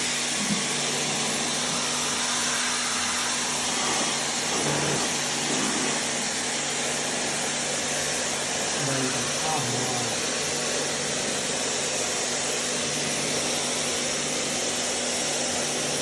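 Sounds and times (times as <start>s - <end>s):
motor whirring with hiss: 0.0s - 16.0s.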